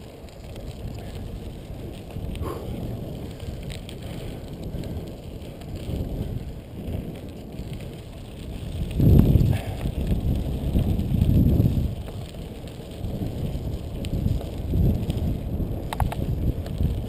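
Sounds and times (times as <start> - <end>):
bicycle tyres on gravel: 0.0 - 17.0
wind rumbling on microphone: 0.0 - 17.0.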